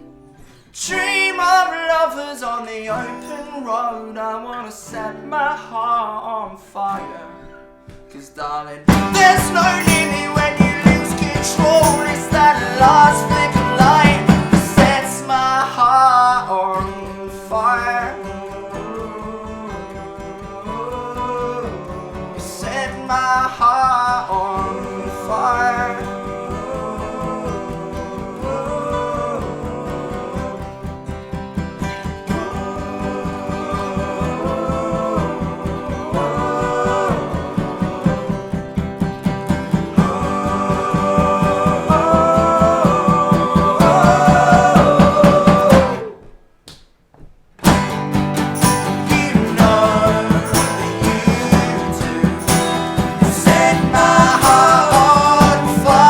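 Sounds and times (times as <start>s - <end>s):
acoustic band playing: 0.0s - 8.1s, 8.8s - 46.2s, 47.6s - 56.0s
strummed acoustic guitar: 0.0s - 46.2s, 47.6s - 56.0s
held melody line: 8.9s - 46.2s, 47.6s - 56.0s.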